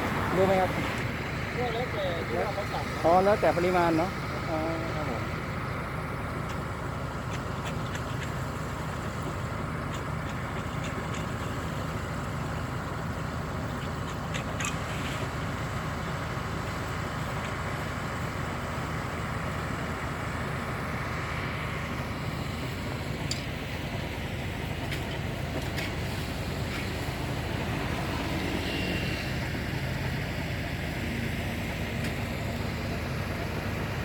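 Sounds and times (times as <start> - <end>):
diesel machinery running: 0.0 - 34.0.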